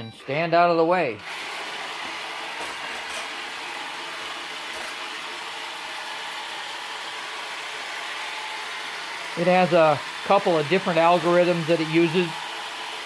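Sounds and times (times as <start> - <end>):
robot vacuum whirring: 1.1 - 13.0.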